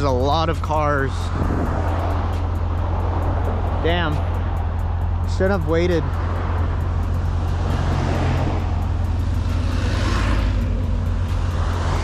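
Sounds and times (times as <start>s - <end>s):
car engine droning at cruise: 0.0s - 12.0s
tyre and road noise: 0.0s - 12.0s
rushing noise: 1.0s - 12.0s.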